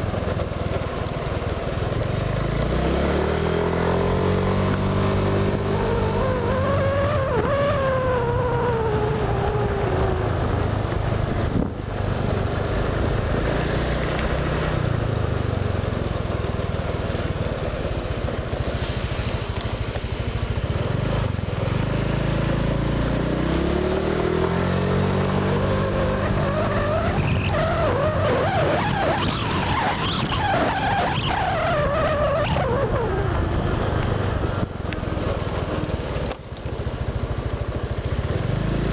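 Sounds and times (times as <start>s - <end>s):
scooter engine revving: 0.0s - 38.9s.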